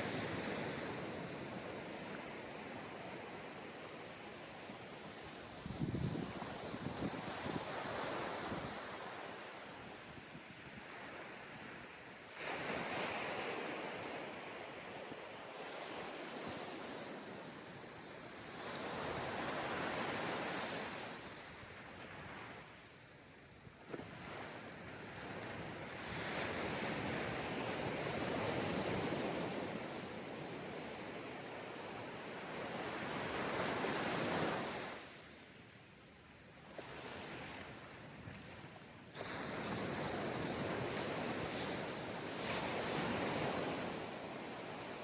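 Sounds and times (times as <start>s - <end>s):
ocean waves breaking on beach: 0.0s - 45.0s.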